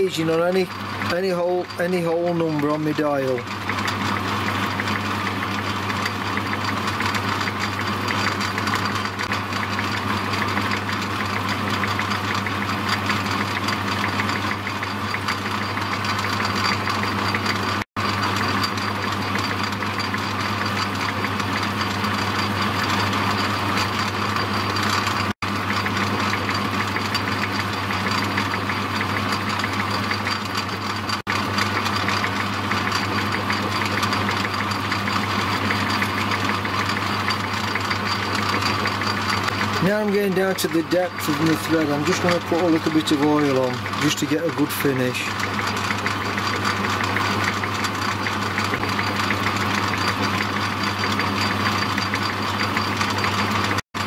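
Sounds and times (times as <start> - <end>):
lathe gear train running: 0.0 - 54.0
lathe motor humming: 0.0 - 54.0.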